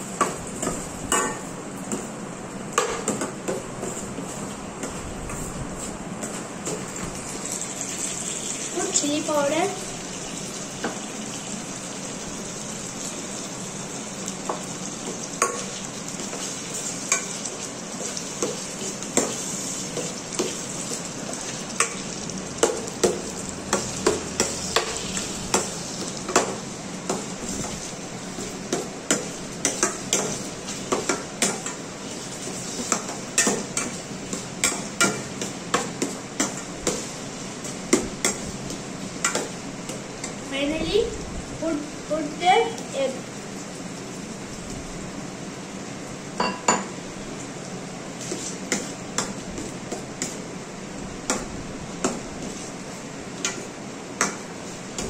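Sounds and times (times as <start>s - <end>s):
onion and tomato sizzling in oil: 0.0s - 55.0s.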